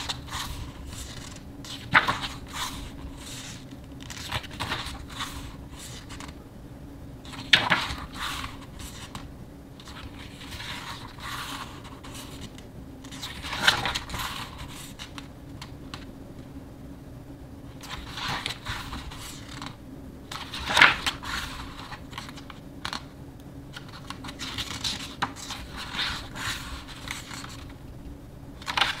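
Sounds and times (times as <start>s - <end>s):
paper rustling and sliding: 0.0s - 6.4s, 7.2s - 16.1s, 17.8s - 23.0s, 23.7s - 27.8s, 28.6s - 29.0s.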